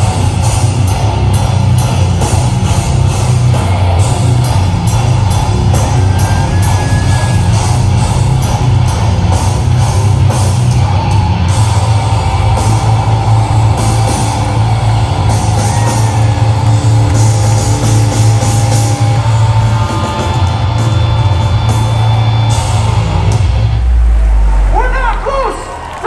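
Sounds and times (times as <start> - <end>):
heavy rock band playing live: 0.0 - 25.2
distorted guitars: 0.0 - 26.0
heavy bass: 0.0 - 26.0.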